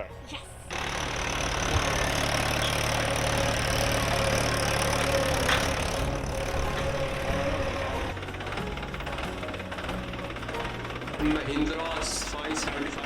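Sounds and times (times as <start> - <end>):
tractor diesel engine idling: 0.7 - 13.0.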